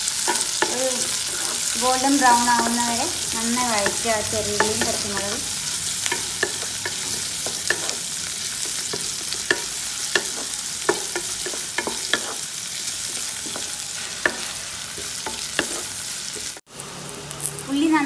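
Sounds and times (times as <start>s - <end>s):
vegetables sizzling in hot oil: 0.0s - 18.0s
spatula scraping a pan: 0.1s - 3.0s, 3.6s - 16.6s.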